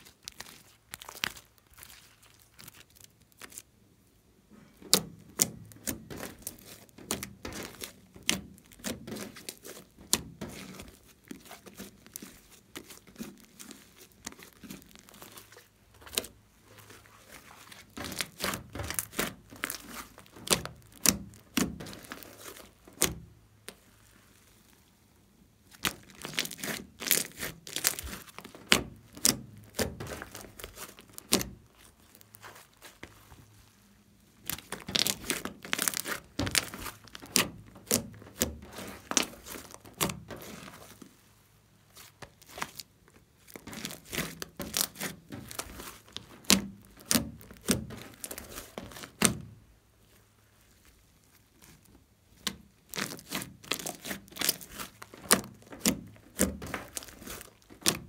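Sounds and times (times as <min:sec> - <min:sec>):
slime popping and crackling: 0:00.0 - 0:03.7, 0:04.8 - 0:24.5, 0:25.6 - 0:33.3, 0:34.4 - 0:41.0, 0:41.9 - 0:49.4, 0:51.6 - 0:58.0
slime squelching: 0:00.0 - 0:04.1, 0:04.8 - 0:58.0.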